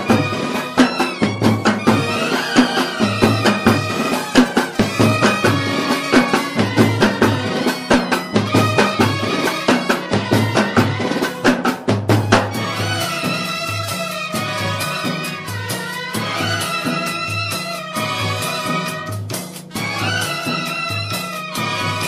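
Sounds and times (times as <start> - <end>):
fast drum beats: 0.0 - 22.0
festive band music: 0.0 - 22.0.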